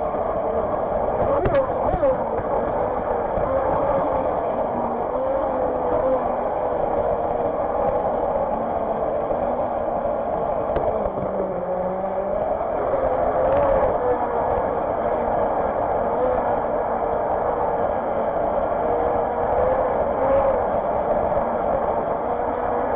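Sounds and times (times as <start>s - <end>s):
boat motor whine: 0.0s - 22.9s.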